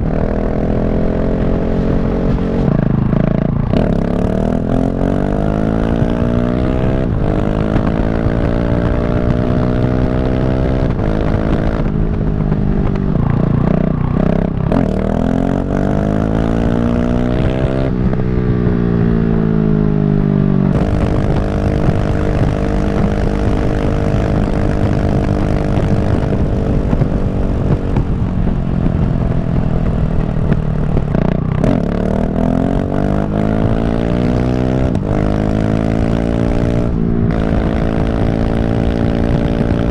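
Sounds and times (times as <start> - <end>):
wind rush: 0.0 - 19.8, 20.6 - 39.9
motorcycle engine revving through gears: 0.0 - 39.9.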